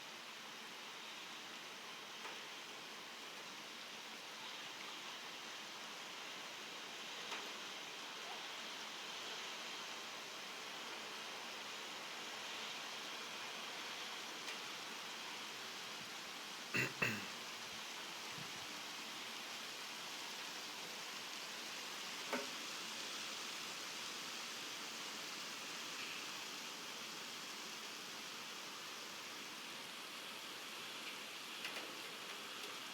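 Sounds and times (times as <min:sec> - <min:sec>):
rain falling: 0:00.1 - 0:32.9.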